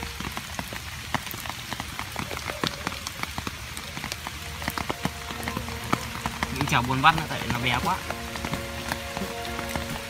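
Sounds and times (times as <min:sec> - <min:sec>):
rain drops ticking: 0:00.0 - 0:10.0.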